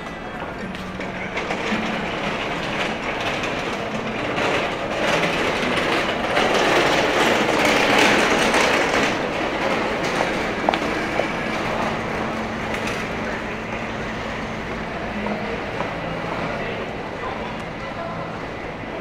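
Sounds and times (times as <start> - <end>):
street noise rushing din: 0.0 - 19.0.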